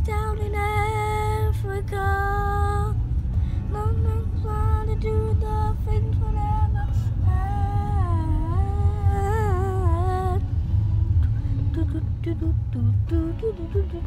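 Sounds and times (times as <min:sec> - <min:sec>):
car rumble: 0:00.0 - 0:14.0.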